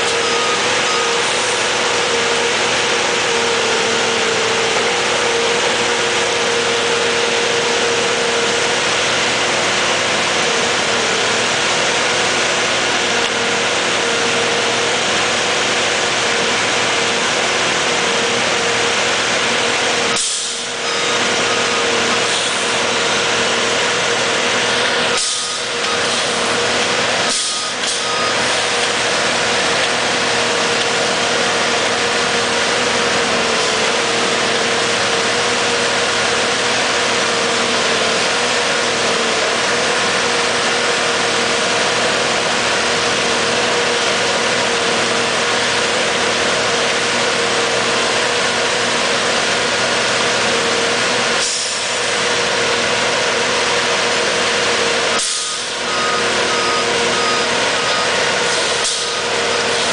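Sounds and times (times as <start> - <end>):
heavy machine engine hum: 0.0 - 59.9
high steady machine tone: 0.0 - 59.9.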